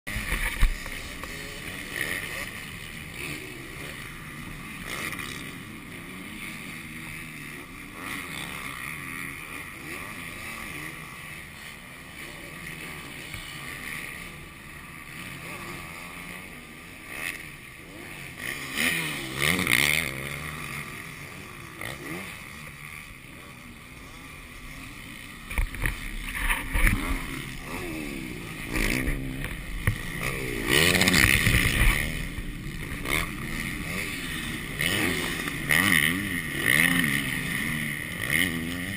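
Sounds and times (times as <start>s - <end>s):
dirt bike engines revving: 0.1s - 38.9s.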